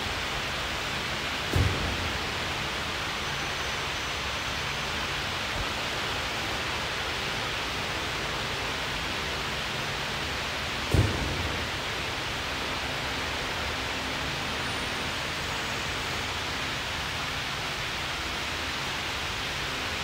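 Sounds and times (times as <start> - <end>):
fan rushing noise: 0.0 - 20.0.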